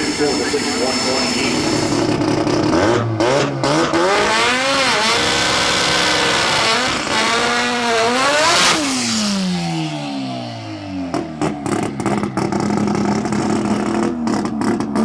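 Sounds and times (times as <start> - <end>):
drag car engine accelerating: 0.0 - 15.0.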